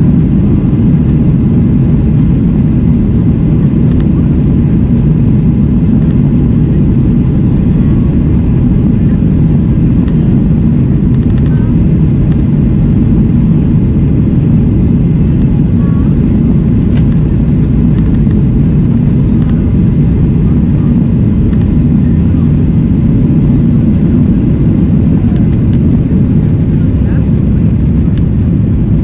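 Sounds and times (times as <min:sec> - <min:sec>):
jet engine cabin rumble: 0:00.0 - 0:29.0.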